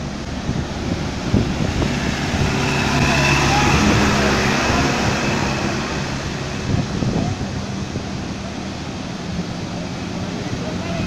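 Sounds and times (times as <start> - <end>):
floodwater rushing: 0.0 - 11.0
truck engine running: 0.0 - 11.0.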